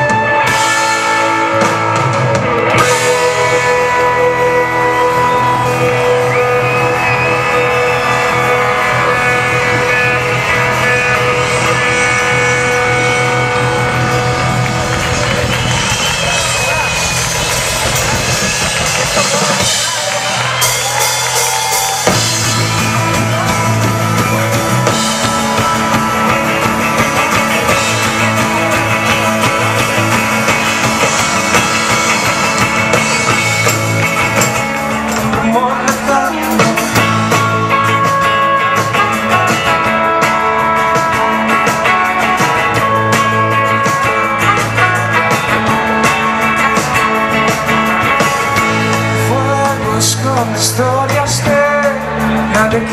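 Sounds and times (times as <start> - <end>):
rock band playing live: 0.0 - 52.9.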